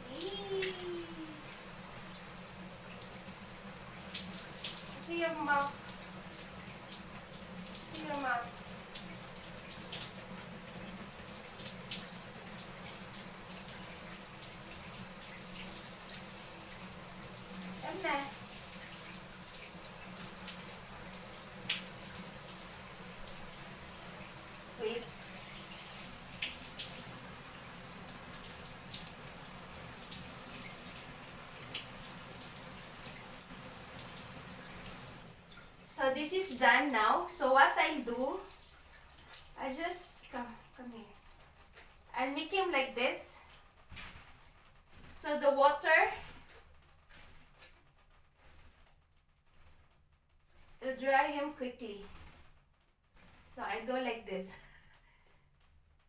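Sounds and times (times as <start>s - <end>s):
tap water running: 0.0s - 49.8s
water splashes and drips: 0.0s - 55.7s.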